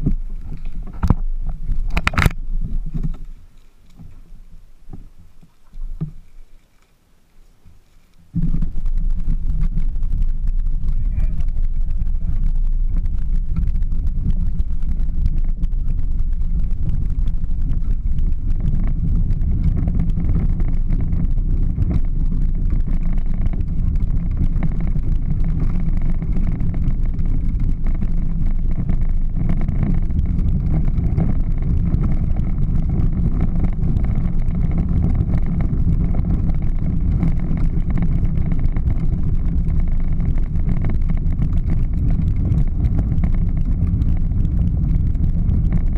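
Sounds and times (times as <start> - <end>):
plastic wheels rumbling on pavement: 0.0 - 7.0, 7.6 - 45.9.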